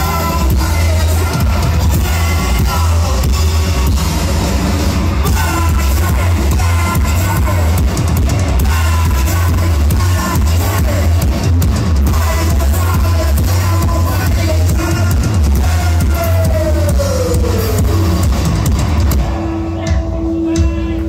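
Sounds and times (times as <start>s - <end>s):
person singing: 0.0s - 4.4s, 5.2s - 18.4s
rock band playing live: 0.0s - 21.0s.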